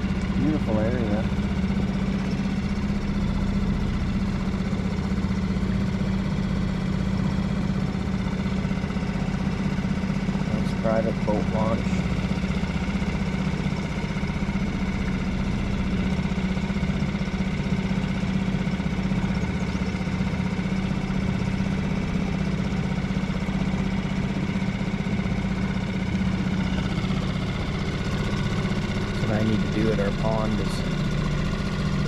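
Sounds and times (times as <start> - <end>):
boat motor humming: 0.0 - 32.0.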